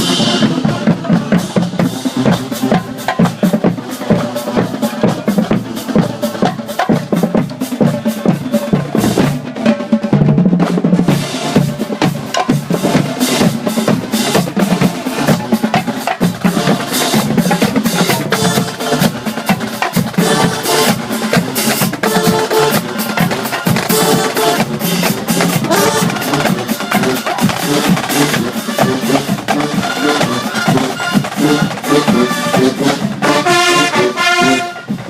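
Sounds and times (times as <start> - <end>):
marching band playing: 0.0 - 35.0
snare and bass drums beating: 0.0 - 35.0.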